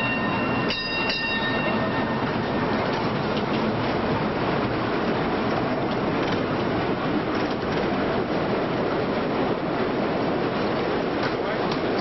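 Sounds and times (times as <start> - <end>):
streetcar rumbling on track: 0.0 - 12.0.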